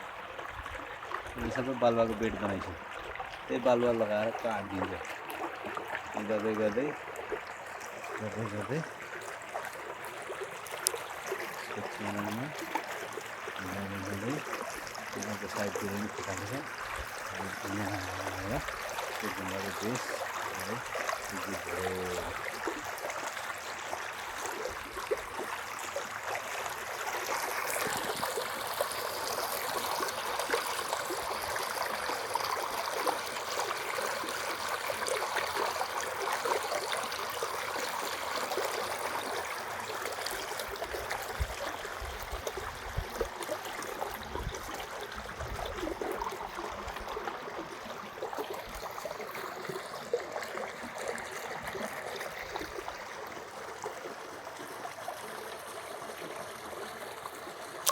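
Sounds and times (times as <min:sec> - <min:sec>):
stream rushing over rock: 0:00.0 - 0:57.9.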